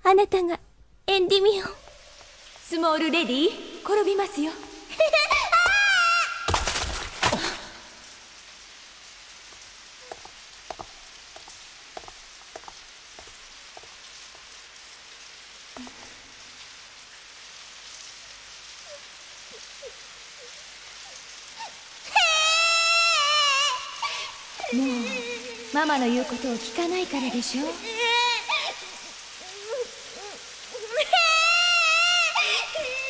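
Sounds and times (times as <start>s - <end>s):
faint drips and patters: 0.0s - 33.0s
steady rain hiss: 0.0s - 33.0s.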